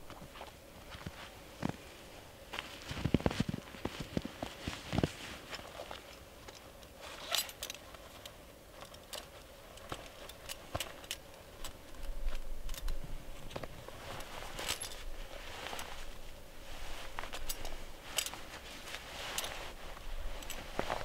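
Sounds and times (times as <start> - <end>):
light clicks of handling gear: 0.0 - 21.0
clothing rustling: 0.3 - 21.0.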